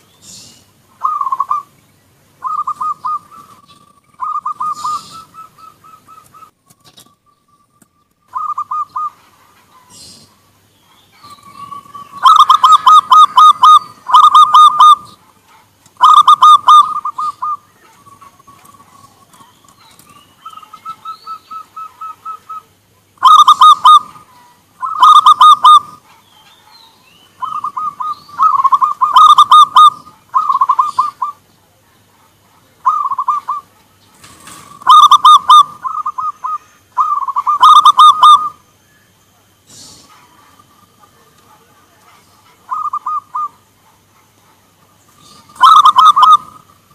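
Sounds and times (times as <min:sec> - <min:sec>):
distant dove cooing: 0:00.0 - 0:31.5, 0:32.1 - 0:46.9
doves cooing: 0:00.0 - 0:46.9.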